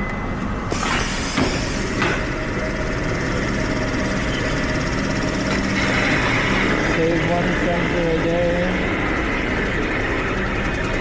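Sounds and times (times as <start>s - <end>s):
workshop machine noise: 0.2s - 11.0s.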